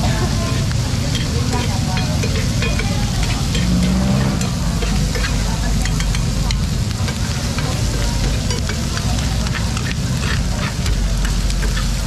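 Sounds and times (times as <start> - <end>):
meat sizzling on hot plates: 0.0 - 12.0
metal spoon scraping a plate: 0.5 - 6.3, 7.1 - 12.0.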